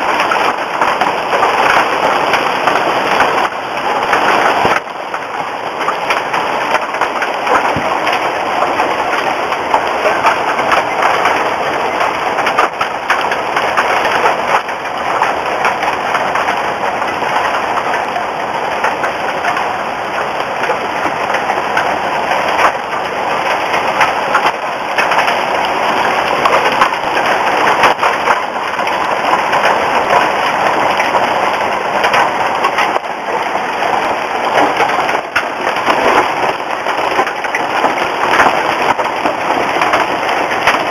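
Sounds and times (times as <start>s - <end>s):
hail and rain pelting down: 0.0s - 40.9s.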